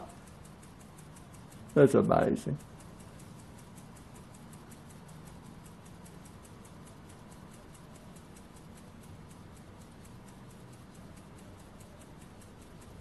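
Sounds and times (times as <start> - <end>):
model steam engine ticking: 0.0 - 13.0.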